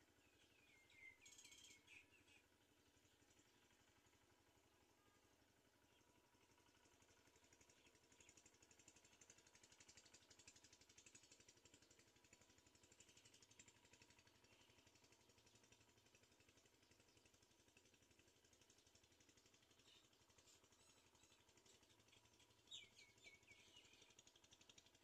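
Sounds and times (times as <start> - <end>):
faint outdoor hiss: 0.0 - 25.0.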